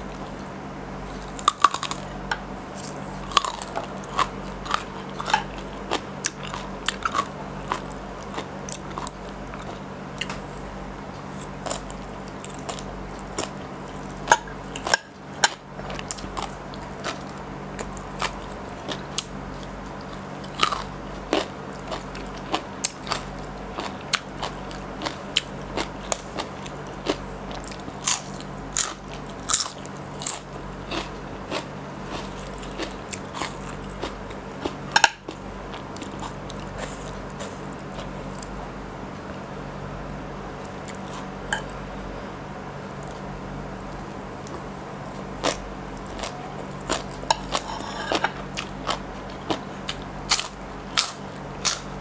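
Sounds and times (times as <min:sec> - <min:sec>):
chewing crisp raw vegetables: 0:00.0 - 0:38.6, 0:40.5 - 0:41.7, 0:42.9 - 0:52.0.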